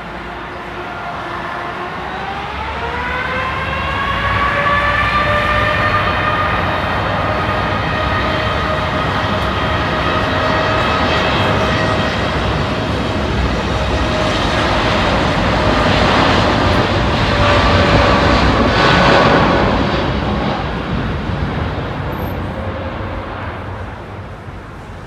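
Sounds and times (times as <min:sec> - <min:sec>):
jet engines at takeoff power: 0:00.0 - 0:25.0.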